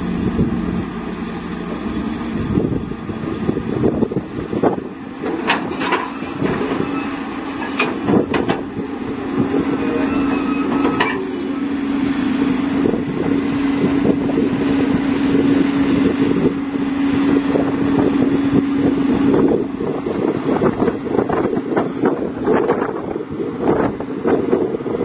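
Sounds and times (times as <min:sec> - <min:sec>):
diesel machinery engine humming: 0:00.0 - 0:25.0.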